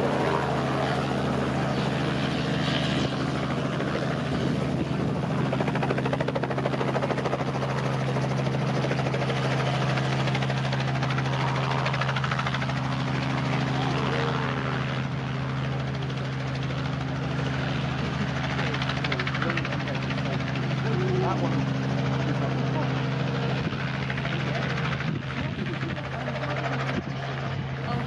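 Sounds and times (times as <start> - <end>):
helicopter rotor pulsing: 0.0 - 28.0.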